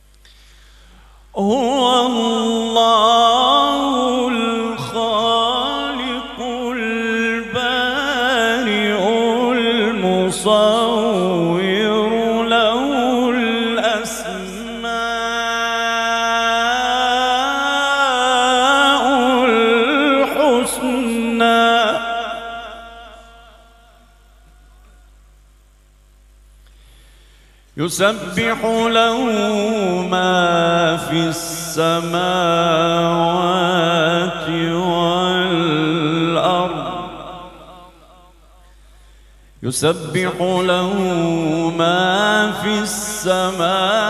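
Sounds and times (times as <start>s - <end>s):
man chanting melodically: 1.4s - 24.9s, 27.8s - 38.6s, 39.6s - 44.0s.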